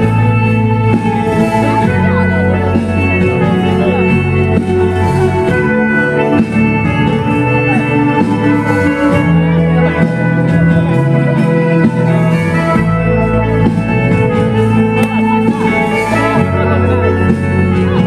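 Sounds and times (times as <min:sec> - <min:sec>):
music with held chords: 0:00.0 - 0:18.0.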